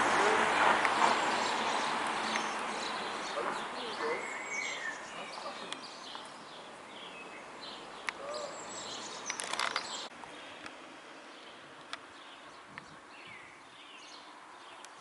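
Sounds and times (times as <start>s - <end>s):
street ambience: 0.0s - 15.0s
small birds chirping: 0.6s - 15.0s.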